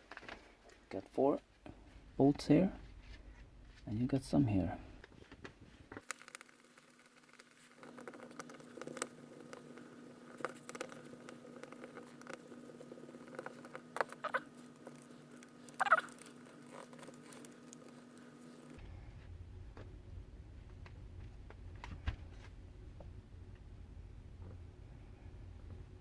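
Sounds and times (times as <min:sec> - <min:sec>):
steady low hum: 0:00.0 - 0:06.0, 0:07.6 - 0:26.0.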